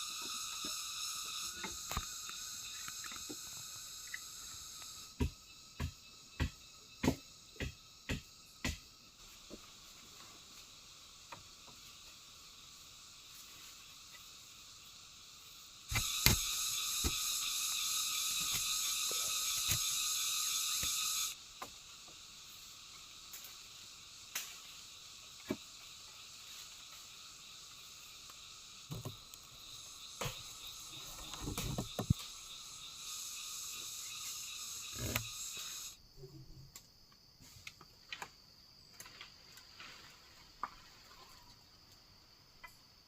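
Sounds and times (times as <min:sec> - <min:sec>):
forest insects buzzing: 0:00.0 - 0:43.0.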